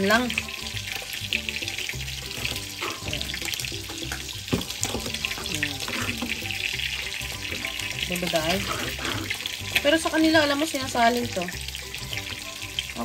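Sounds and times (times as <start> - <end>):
fish sizzling in pan: 0.0 - 13.0.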